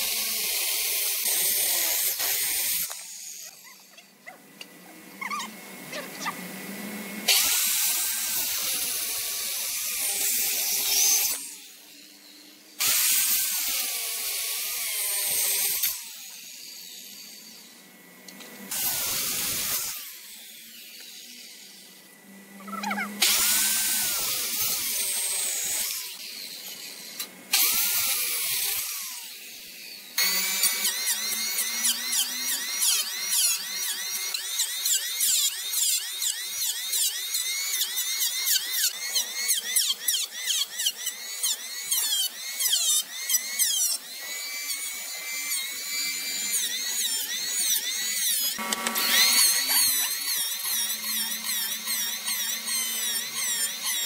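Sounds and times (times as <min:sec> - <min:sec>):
circular saw cutting wood: 0:00.0 - 0:54.0
electric planer buzzing: 0:00.0 - 0:54.0.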